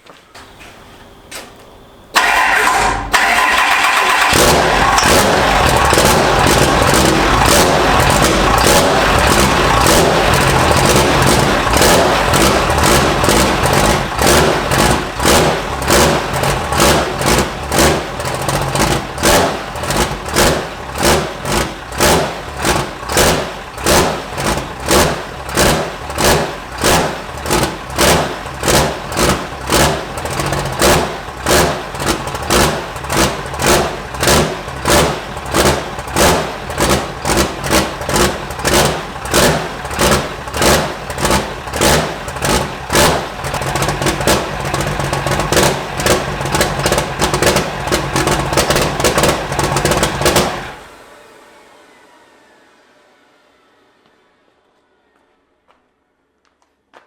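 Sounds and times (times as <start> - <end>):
diesel engine surging: 2.1 - 54.5.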